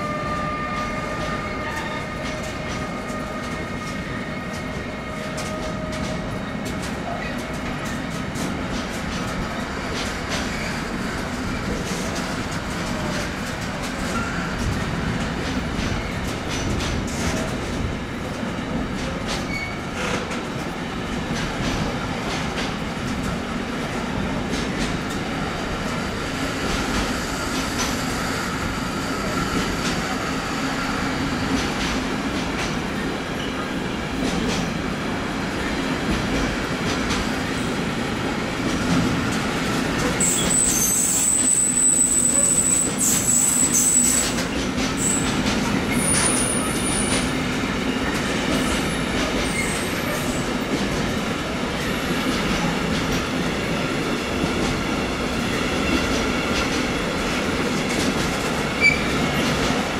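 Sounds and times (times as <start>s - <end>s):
freight train rumbling on rails: 0.0s - 59.9s.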